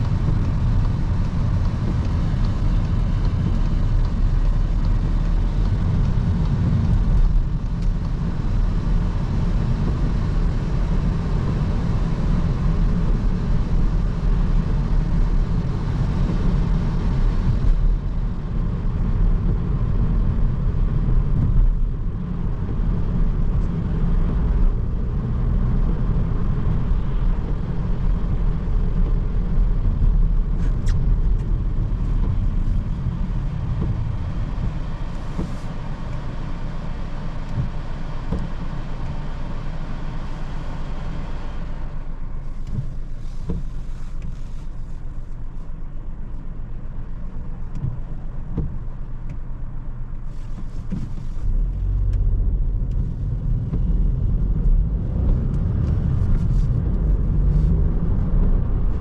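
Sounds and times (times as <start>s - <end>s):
car engine humming: 0.0s - 59.0s
road noise rumble: 0.0s - 59.0s.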